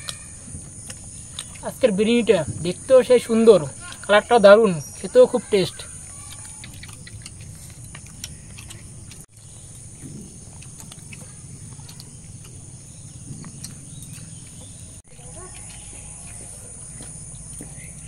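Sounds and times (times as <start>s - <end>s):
high-pitched insect chorus: 0.0s - 18.0s
low outdoor rumble: 0.0s - 18.0s.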